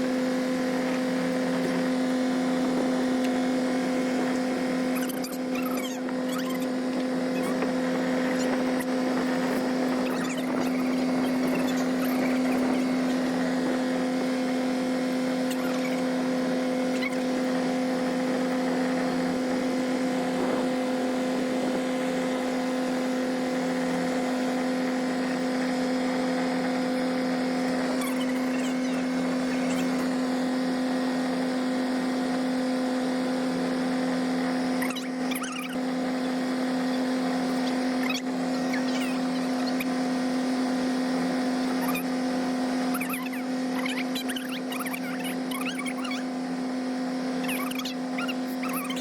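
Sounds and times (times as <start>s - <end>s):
boat engine drone: 0.0s - 49.0s.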